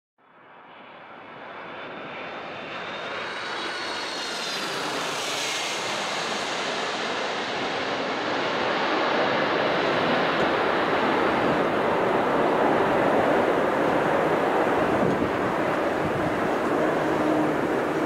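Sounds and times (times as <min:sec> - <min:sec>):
jet airliner roar overhead: 0:00.2 - 0:18.0.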